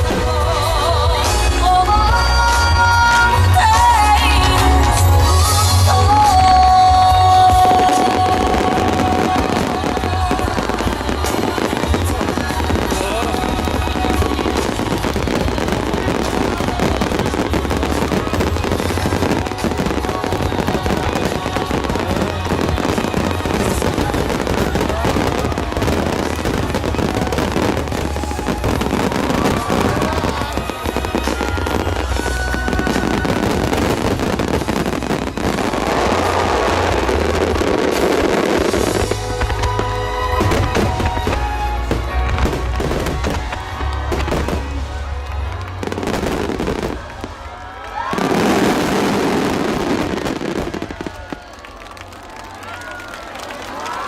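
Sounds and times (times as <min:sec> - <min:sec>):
music over loudspeakers: 0:00.0 - 0:51.4
fireworks booming and crackling: 0:00.0 - 0:53.1.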